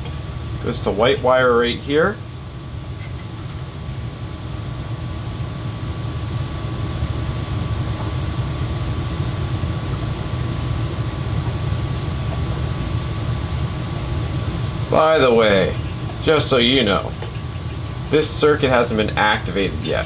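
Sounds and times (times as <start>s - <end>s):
machine rumbling with whine: 0.0s - 20.0s.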